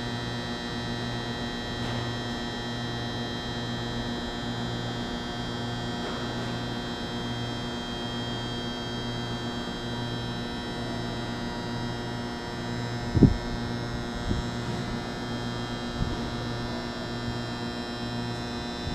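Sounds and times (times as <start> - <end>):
electrical hum: 0.0 - 18.9.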